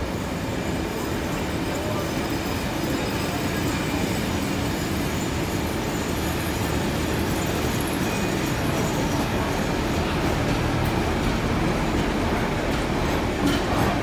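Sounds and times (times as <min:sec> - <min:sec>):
steel wheels running on rails: 0:00.0 - 0:14.0.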